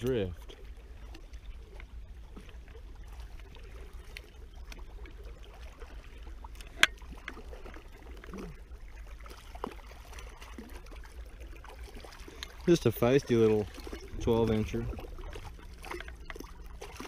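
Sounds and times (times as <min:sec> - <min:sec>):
river water lapping: 0:00.0 - 0:17.0.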